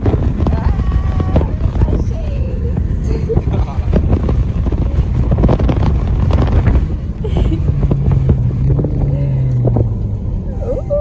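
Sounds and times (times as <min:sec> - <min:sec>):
car engine drone: 0:00.0 - 0:11.0
road rumble: 0:00.0 - 0:11.0
wind noise in car cabin: 0:00.0 - 0:11.0.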